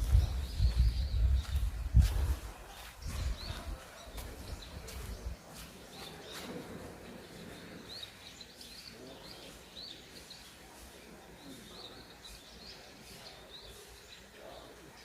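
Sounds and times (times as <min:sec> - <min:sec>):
faint outdoor background noise: 0:00.0 - 0:15.0
small songbirds chirping: 0:00.0 - 0:15.0.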